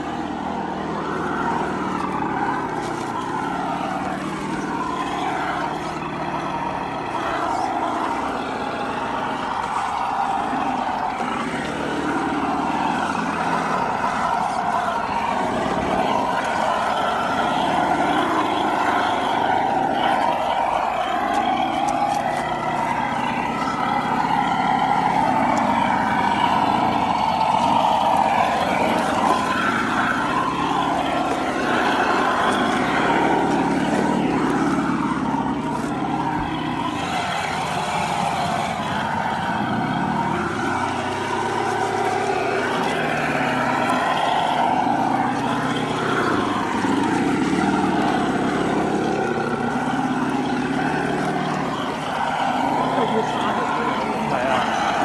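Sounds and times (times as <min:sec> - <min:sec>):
rc truck motors whining: 0:00.0 - 0:55.0.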